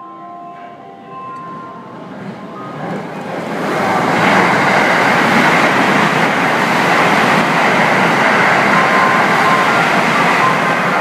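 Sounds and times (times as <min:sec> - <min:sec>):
electric train passing: 0:00.0 - 0:11.0.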